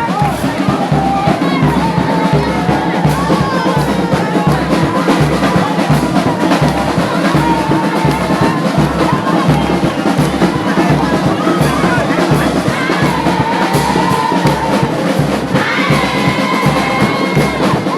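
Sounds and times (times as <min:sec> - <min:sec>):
music with drum beat and melody: 0:00.0 - 0:17.9.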